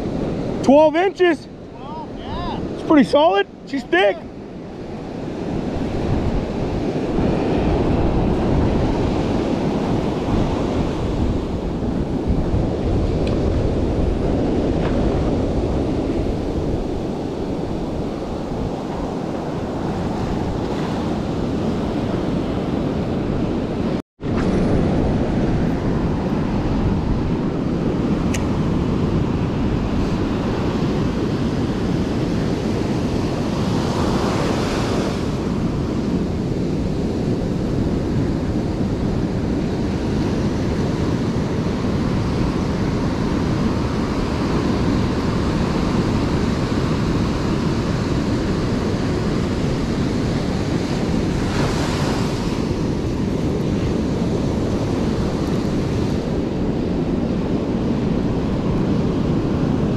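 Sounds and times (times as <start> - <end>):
surf breaking on beach: 0.0 - 59.9
wind rumbling on microphone: 0.0 - 59.9.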